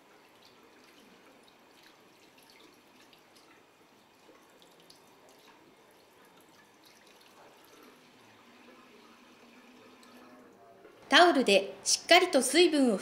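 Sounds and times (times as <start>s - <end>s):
running tap water: 0.0s - 10.6s.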